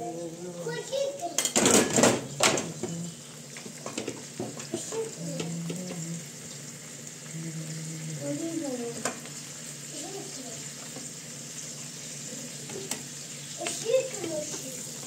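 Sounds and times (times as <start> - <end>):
steady hiss: 2.3 - 15.0.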